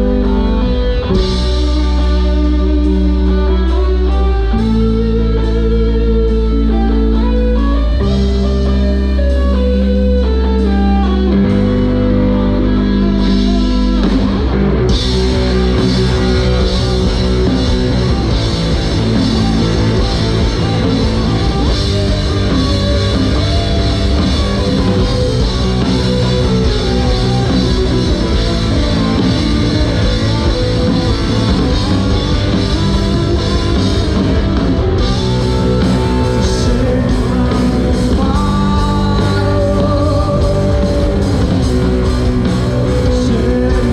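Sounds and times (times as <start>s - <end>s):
electric guitar: 0.0s - 43.9s
rock band playing loudly: 0.0s - 43.9s.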